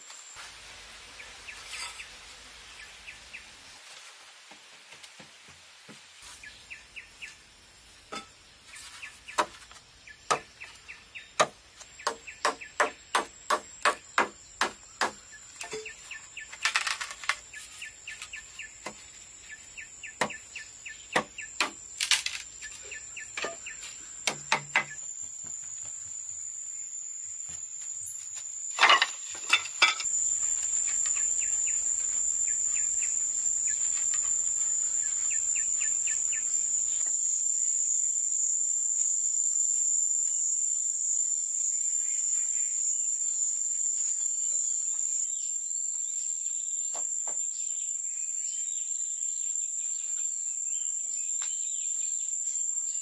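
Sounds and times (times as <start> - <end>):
cricket trilling: 6.5 - 53.0.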